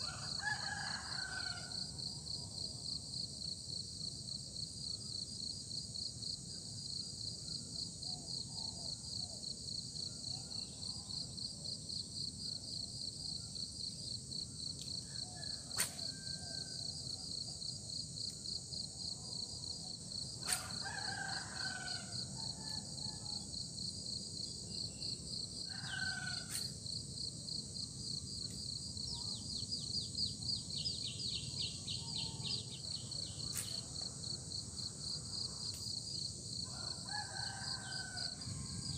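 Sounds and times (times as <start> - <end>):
insects chirping trill: 0.0 - 38.9.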